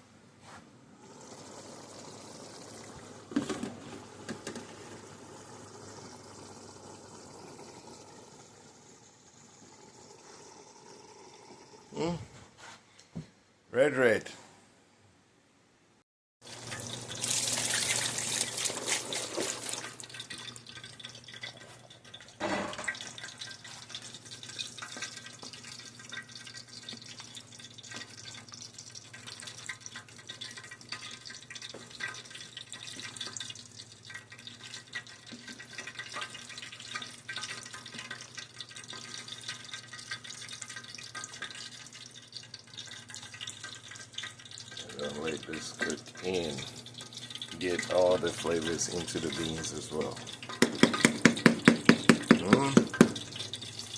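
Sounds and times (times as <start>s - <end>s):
stew sizzling and popping: 1.0s - 11.9s, 16.4s - 53.9s.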